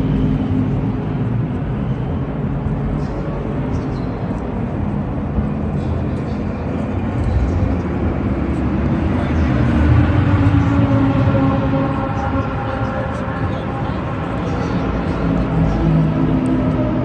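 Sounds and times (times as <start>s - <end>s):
race car engines rumbling: 0.0s - 17.0s.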